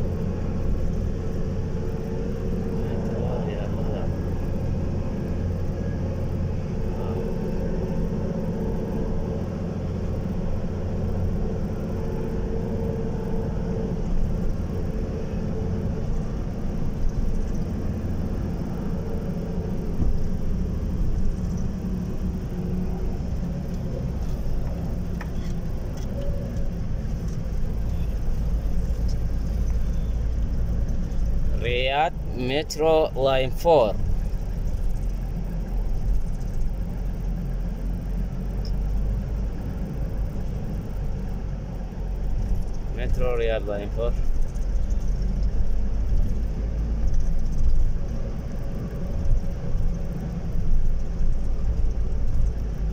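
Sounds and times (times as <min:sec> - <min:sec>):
car engine and road rumble: 0:00.0 - 0:52.9.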